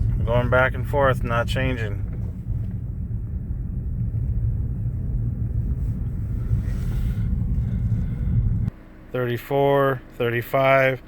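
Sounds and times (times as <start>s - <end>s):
road and engine rumble in a car: 0.0s - 11.0s.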